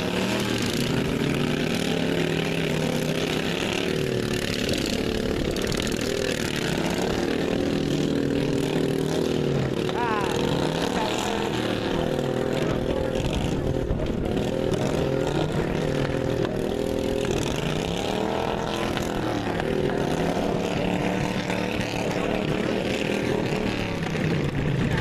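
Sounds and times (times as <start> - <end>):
racing lawn mower engines: 0.0 - 25.0.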